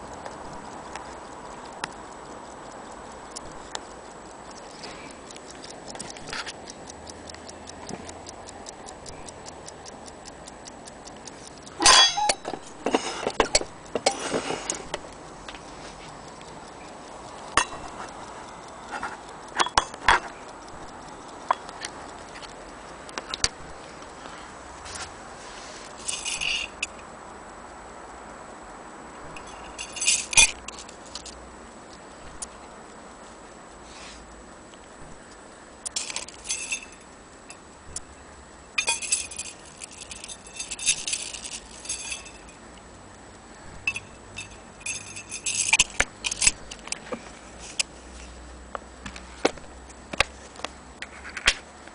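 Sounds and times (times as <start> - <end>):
clock ticking: 0.0 - 51.9.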